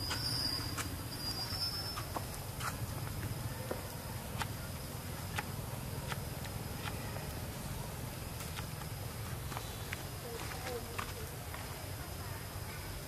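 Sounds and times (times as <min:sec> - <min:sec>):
high insect tone: 0:00.0 - 0:13.0.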